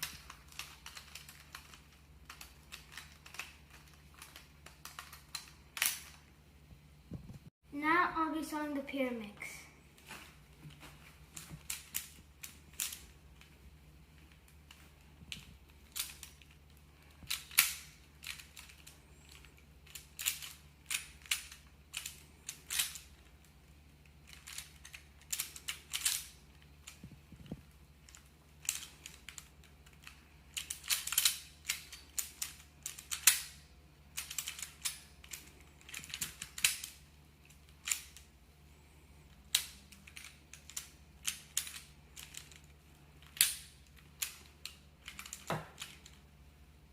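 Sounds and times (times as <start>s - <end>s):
plastic puzzle clicks and clacks: 0.0s - 6.2s, 11.3s - 13.6s, 14.2s - 23.4s, 24.2s - 38.3s, 39.4s - 46.2s.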